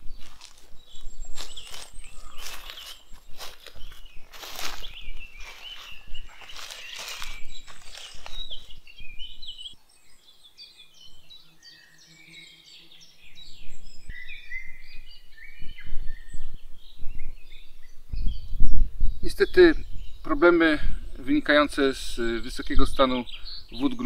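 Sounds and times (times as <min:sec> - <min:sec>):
small birds singing: 0:00.0 - 0:24.0.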